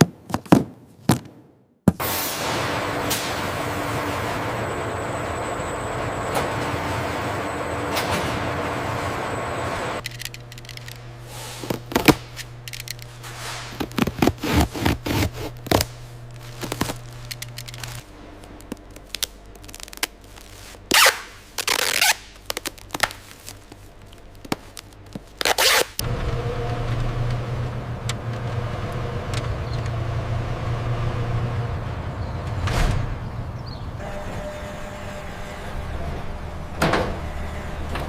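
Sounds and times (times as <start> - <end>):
steady low hum: 2.0 - 38.0
steady rumbling noise: 2.0 - 38.0.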